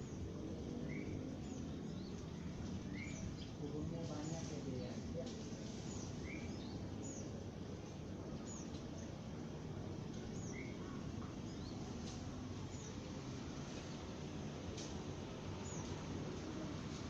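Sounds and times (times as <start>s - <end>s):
low background rumble: 0.0s - 17.0s
sparrows chirping: 0.0s - 17.0s.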